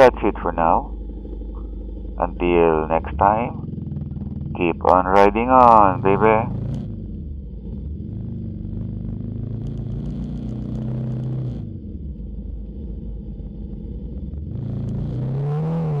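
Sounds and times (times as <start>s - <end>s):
motorcycle engine revving: 0.0s - 16.0s
road and wind noise: 0.0s - 16.0s.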